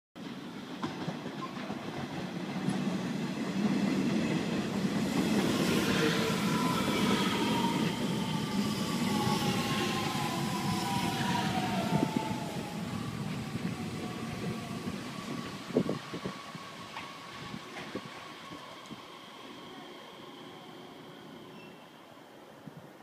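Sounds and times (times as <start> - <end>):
train wheels on rails: 0.2 - 22.1.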